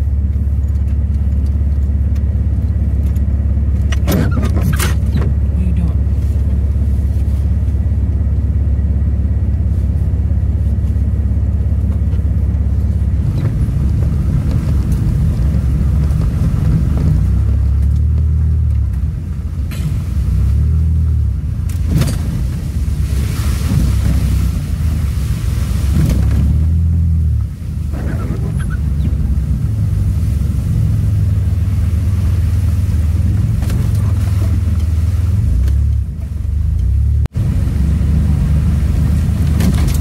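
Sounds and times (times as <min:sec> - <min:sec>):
engine and tyres rumbling: 0:00.0 - 0:40.0.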